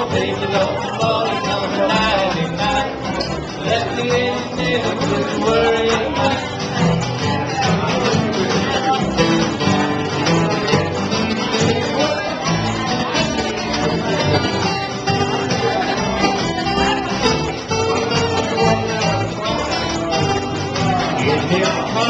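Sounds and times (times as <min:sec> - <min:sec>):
jug band playing: 0:00.0 - 0:22.0
plucked guitar strings: 0:00.0 - 0:22.0.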